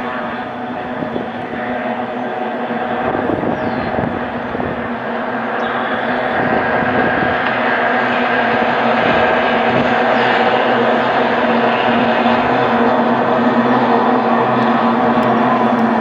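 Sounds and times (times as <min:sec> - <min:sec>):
outboard engine at high revs: 0:00.0 - 0:16.0.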